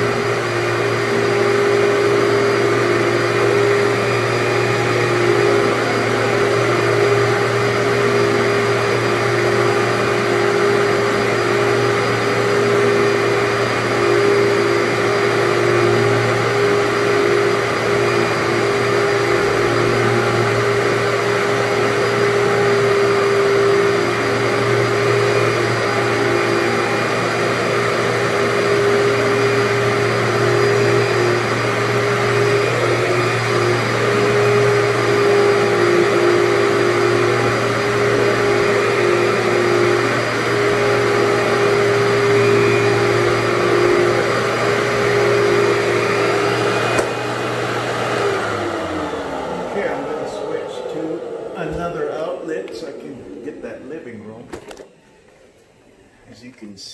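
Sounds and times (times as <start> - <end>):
vacuum cleaner on carpet: 0.0 - 54.9.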